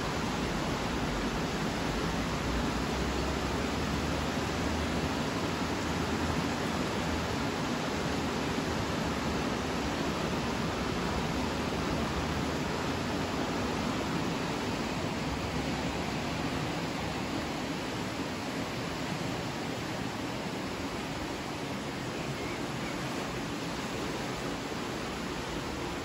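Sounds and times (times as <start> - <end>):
river rushing over rapids: 0.0 - 26.0.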